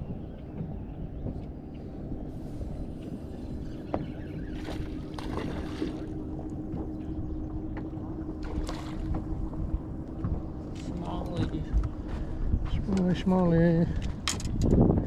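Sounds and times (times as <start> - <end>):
trolling motor hum: 0.0 - 15.0
water lapping against a hull: 0.0 - 15.0
wind on the microphone: 0.0 - 15.0.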